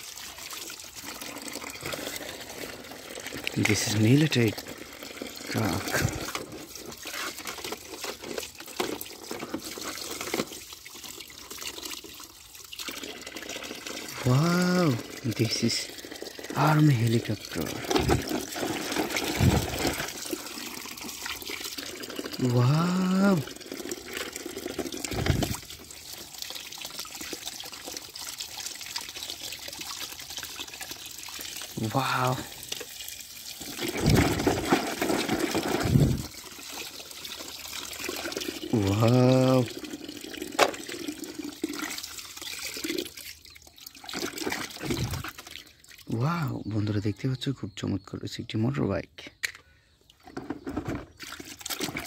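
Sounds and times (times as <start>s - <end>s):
water splashing: 0.0s - 45.6s
tap water pouring into bucket: 0.0s - 46.7s, 50.1s - 52.0s.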